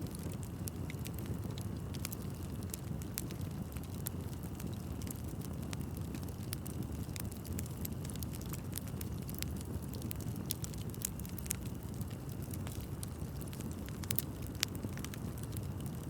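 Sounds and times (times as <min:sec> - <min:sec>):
fire crackles and pops: 0:00.0 - 0:16.0
wood fire rumble: 0:00.0 - 0:16.0.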